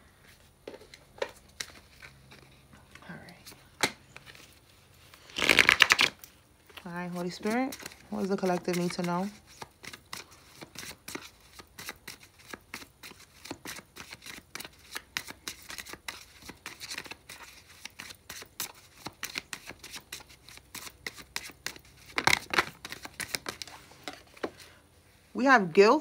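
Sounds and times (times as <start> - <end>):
cards being shuffled: 0.7 - 24.6.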